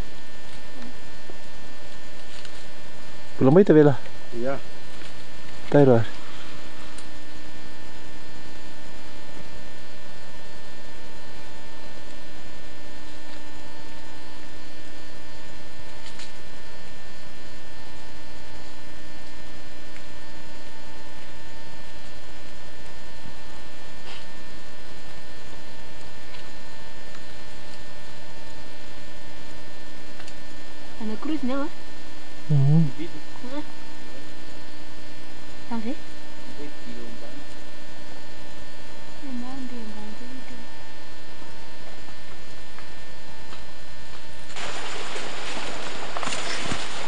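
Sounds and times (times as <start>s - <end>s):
electrical hum: 0.0s - 47.0s.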